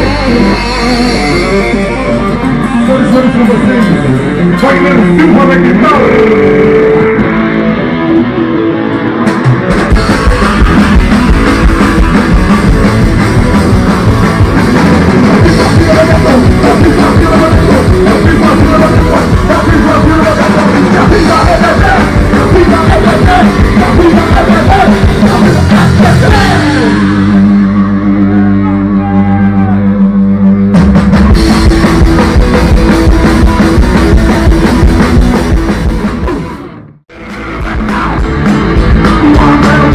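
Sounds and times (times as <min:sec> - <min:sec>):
drums: 0:00.0 - 0:39.9
electric guitar: 0:00.0 - 0:39.9
live rock band playing: 0:00.0 - 0:39.9.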